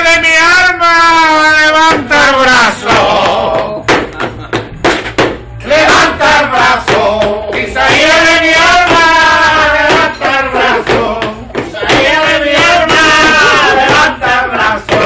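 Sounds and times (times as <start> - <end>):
men singing held notes: 1.2 - 3.9, 5.6 - 15.0.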